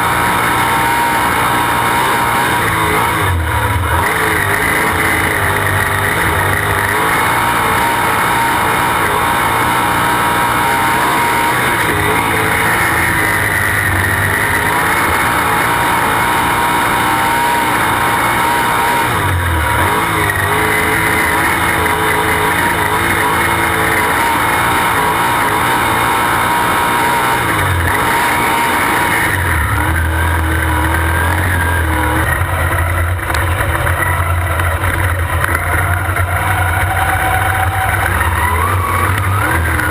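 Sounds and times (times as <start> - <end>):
racing car engine: 0.0 - 39.9.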